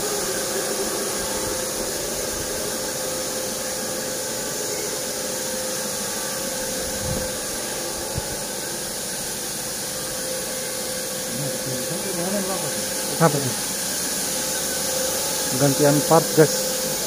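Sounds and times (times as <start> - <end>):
machine hiss: 0.0 - 17.0
machine hum: 0.0 - 17.0.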